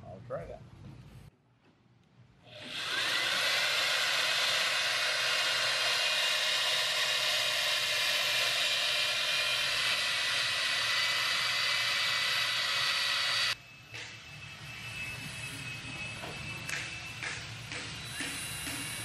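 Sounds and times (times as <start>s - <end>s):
electric drill motor whine: 2.5s - 19.0s.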